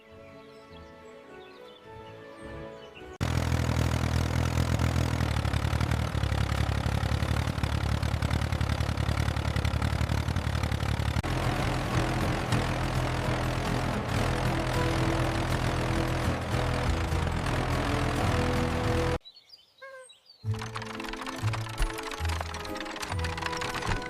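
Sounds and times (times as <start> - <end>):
tractor engine chugging: 3.2 - 19.2, 20.5 - 24.0.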